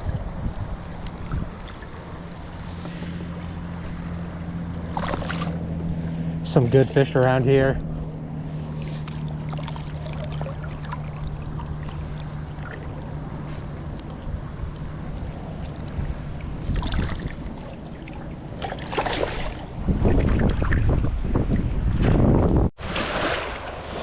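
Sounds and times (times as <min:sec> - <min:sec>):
water splashing or rushing: 0:00.0 - 0:06.4, 0:08.6 - 0:22.0, 0:22.8 - 0:24.0
low motor hum: 0:00.0 - 0:24.0.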